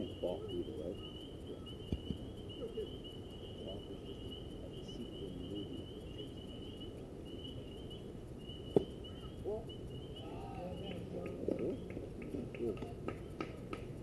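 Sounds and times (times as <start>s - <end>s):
faint distant voices: 0.0s - 14.0s
insects chirping trill: 0.0s - 14.0s
outdoor background noise: 0.0s - 14.0s.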